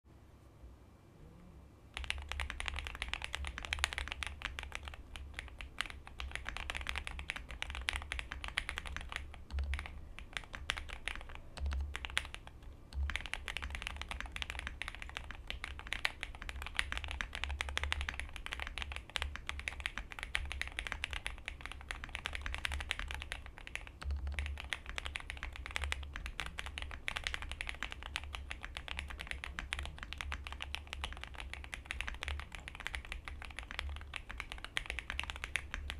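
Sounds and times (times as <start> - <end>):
fast mechanical keyboard typing: 2.0 - 35.9.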